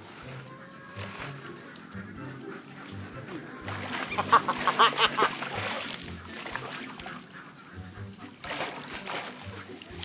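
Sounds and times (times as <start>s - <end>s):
background music with bass line: 0.0s - 10.0s
water splashing: 0.0s - 10.0s.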